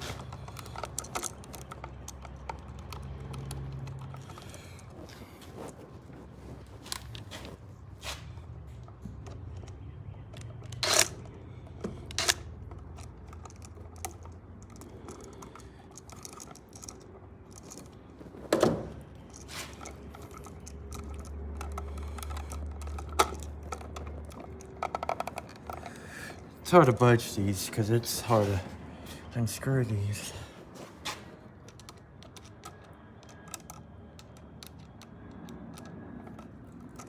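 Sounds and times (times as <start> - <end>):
small tools clicking and tapping: 0.0 - 7.6, 8.5 - 28.6, 30.2 - 37.0.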